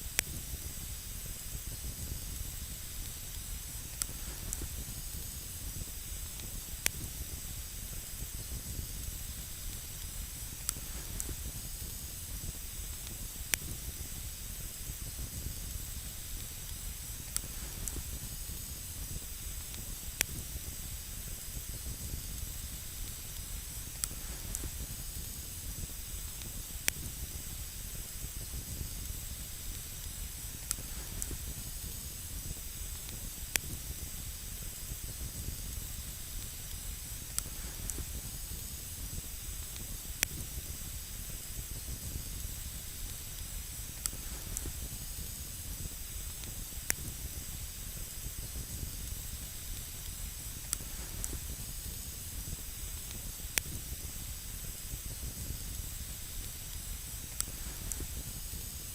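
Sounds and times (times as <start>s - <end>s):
campfire crackling and hissing: 0.0s - 58.9s.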